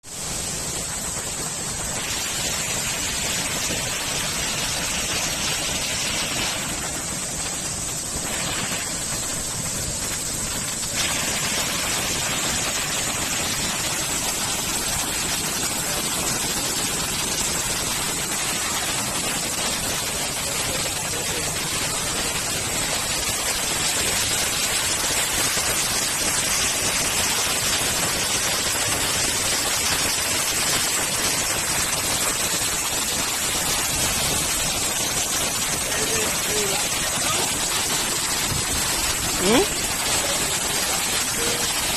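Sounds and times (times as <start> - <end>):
waterfall rushing into pool: 0.0 - 41.9.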